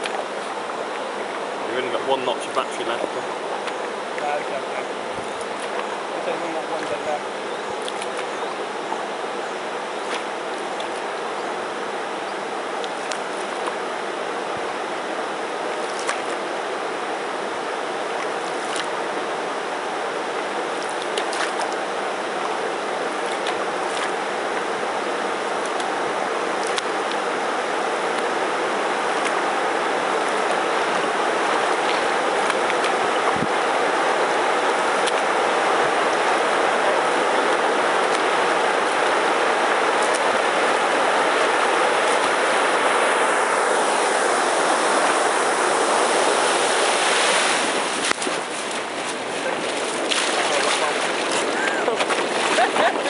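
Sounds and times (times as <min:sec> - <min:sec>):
water rushing over weir: 0:00.0 - 0:53.0.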